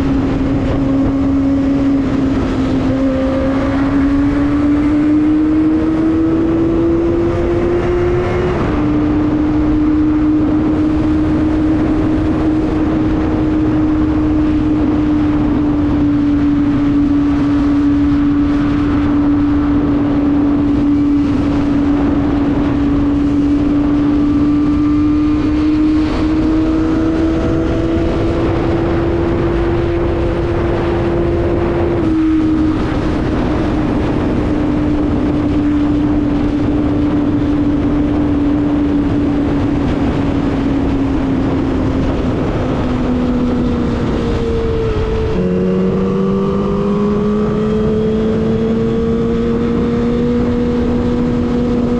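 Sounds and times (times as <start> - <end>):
motorcycle engine at high revs: 0.0 - 51.9
wind noise on microphone: 0.0 - 51.9.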